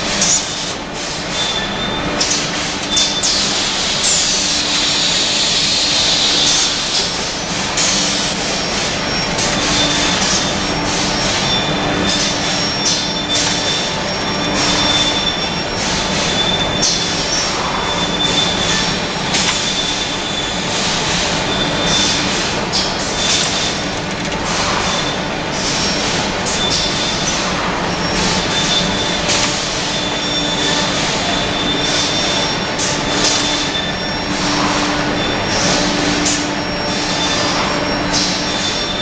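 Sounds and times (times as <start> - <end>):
high machine whine: 0.0 - 39.0
machinery humming: 0.0 - 39.0.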